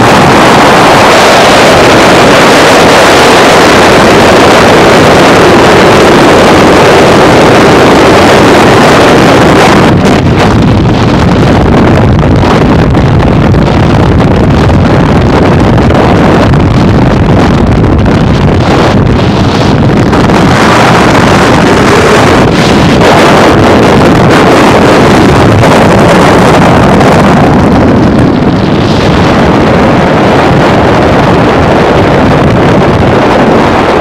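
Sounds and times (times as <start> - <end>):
car road noise: 0.0 - 34.0
wind buffeting microphone: 0.0 - 34.0
wind rush from moving car: 0.0 - 34.0.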